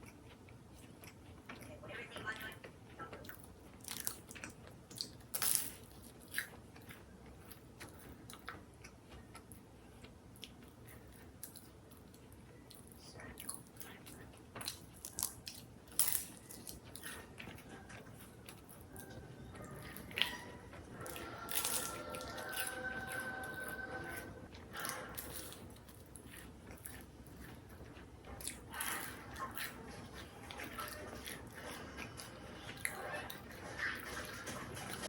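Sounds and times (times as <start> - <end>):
chewing crunchy food: 0.0 - 35.0.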